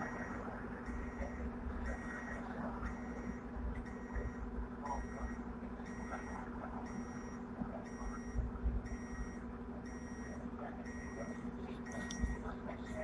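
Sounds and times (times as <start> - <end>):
electronic warning beeps: 0.0 - 13.0
tram hum and low rumble: 0.0 - 13.0.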